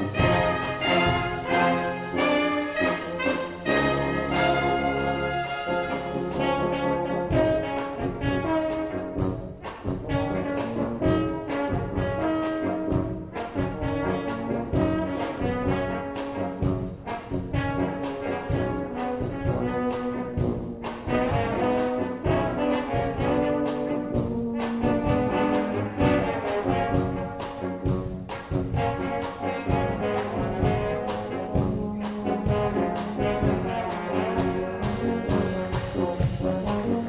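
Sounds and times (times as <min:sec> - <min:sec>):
brass band playing: 0:00.0 - 0:37.0.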